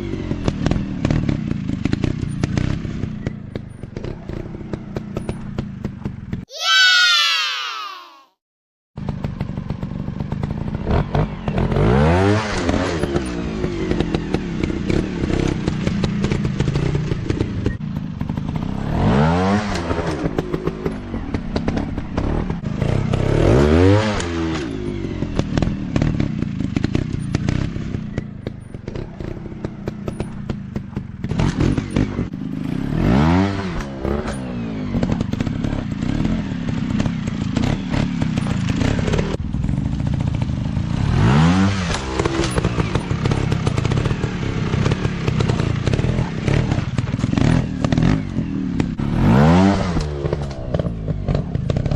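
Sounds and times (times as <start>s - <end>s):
dirt bike engines revving: 10.1s - 51.9s.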